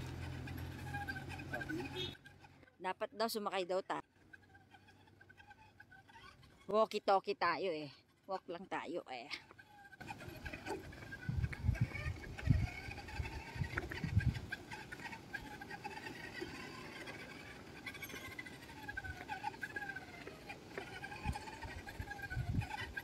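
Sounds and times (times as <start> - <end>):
model car electric motor whining: 0.0 - 2.8, 4.0 - 6.8, 9.4 - 23.0.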